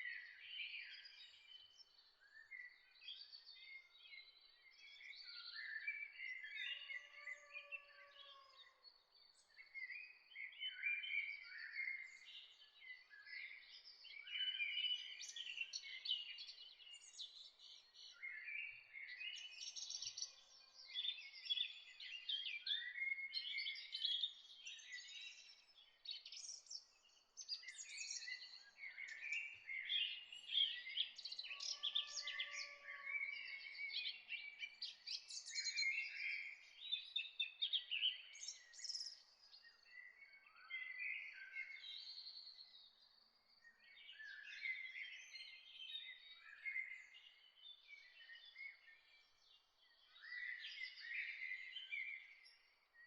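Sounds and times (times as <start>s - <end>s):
songbirds chirping and singing: 0.0s - 53.0s.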